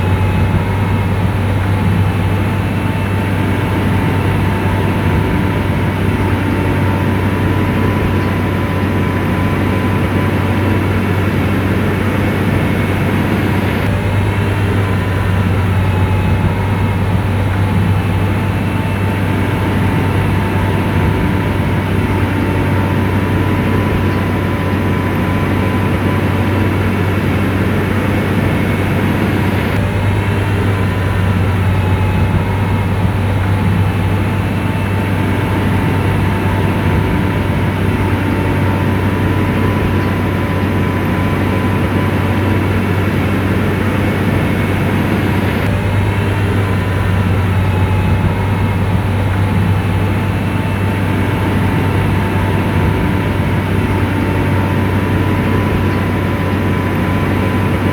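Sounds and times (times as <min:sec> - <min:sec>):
diesel engine droning: 0:00.0 - 0:57.9
faint wavering whine: 0:00.0 - 0:57.9.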